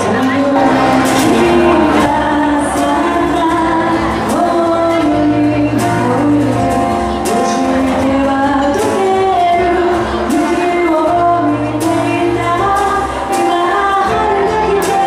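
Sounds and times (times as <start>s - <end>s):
acoustic guitar: 0.0s - 15.0s
keyboard: 0.0s - 15.0s
person singing: 0.0s - 15.0s.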